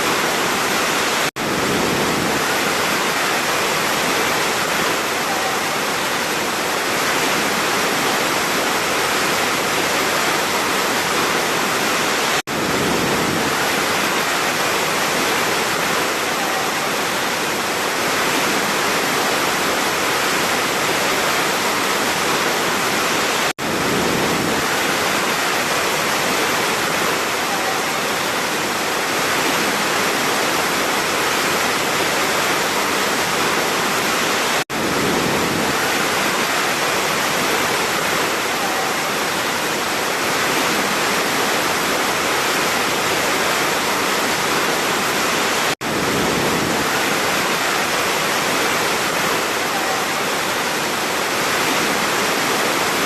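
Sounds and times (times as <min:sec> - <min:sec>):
waterfall rushing water: 0:00.0 - 0:53.0.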